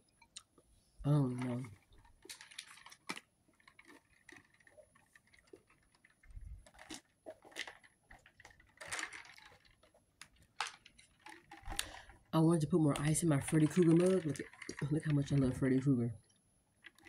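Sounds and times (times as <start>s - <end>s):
rustling: 0.8s - 17.0s.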